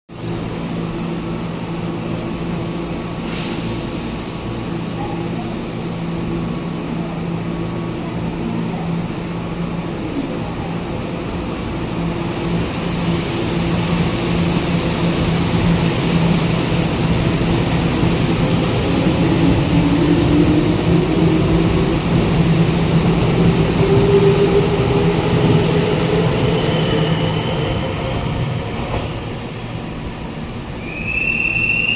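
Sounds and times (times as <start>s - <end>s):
electric train humming: 0.2s - 31.9s.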